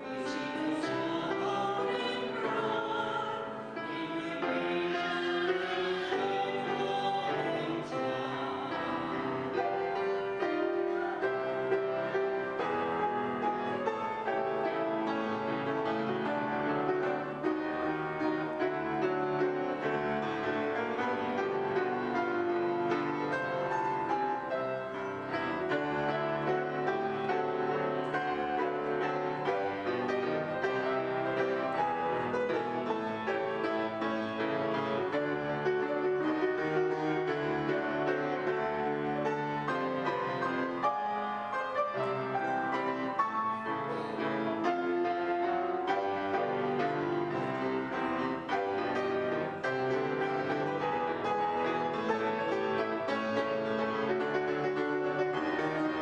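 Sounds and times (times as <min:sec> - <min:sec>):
live piano music: 0:00.0 - 0:56.0.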